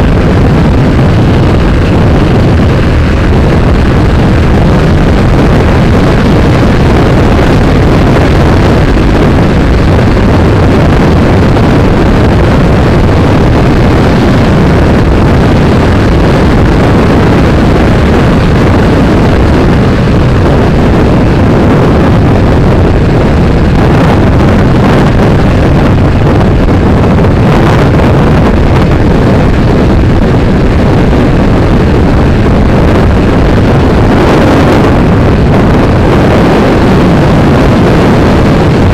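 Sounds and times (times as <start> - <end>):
motorcycle engine drone: 0.0 - 38.9
wind buffeting microphone: 0.0 - 38.9.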